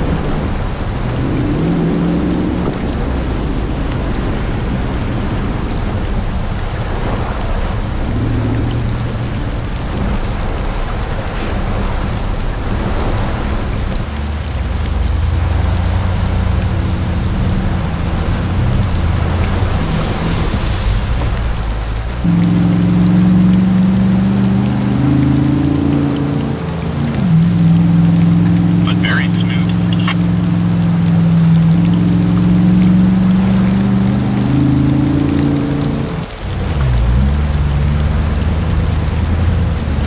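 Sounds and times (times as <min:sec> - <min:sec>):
car engine running: 0:00.0 - 0:40.0
heavy rain: 0:00.0 - 0:40.0
water splashing: 0:00.0 - 0:40.0.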